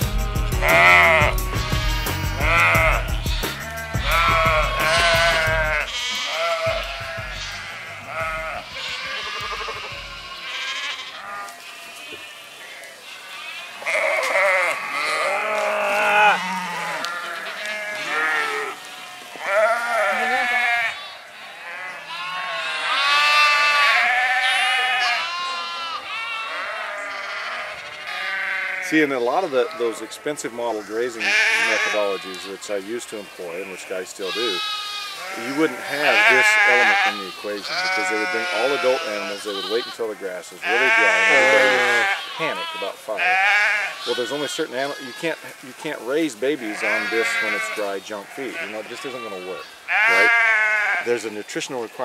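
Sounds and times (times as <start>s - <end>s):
sheep and goats bleating: 0.0s - 52.0s.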